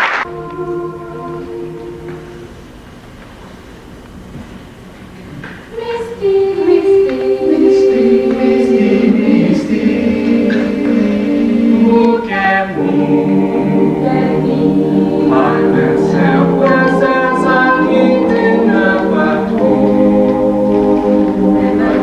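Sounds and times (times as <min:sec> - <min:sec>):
choir singing a cappella: 0:00.0 - 0:02.7, 0:05.7 - 0:22.0.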